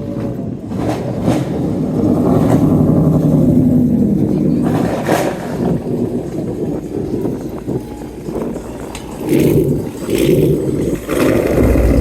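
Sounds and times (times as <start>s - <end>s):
car engine and exhaust: 0.0s - 12.0s.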